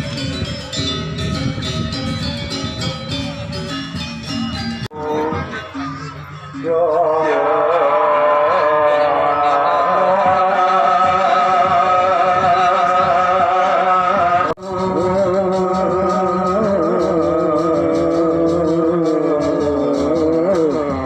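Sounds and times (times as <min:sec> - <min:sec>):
music with wavering singing: 0:00.0 - 0:21.0.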